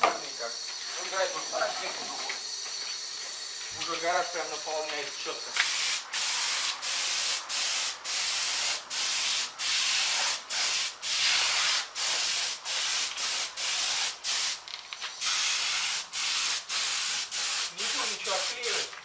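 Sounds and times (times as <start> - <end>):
paint spray gun hissing: 0.4 - 19.0.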